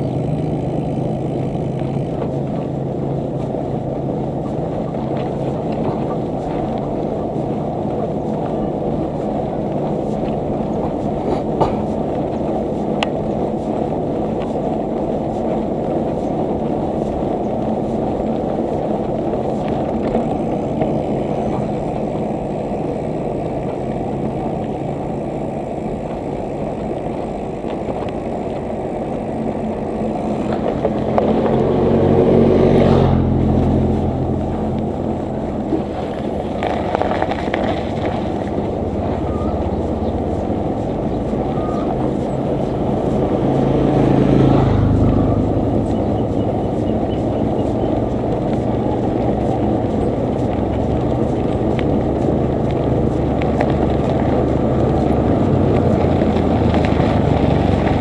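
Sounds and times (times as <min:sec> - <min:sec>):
faint steady hum: 0:00.0 - 0:58.0
wind buffeting microphone: 0:00.0 - 0:58.0.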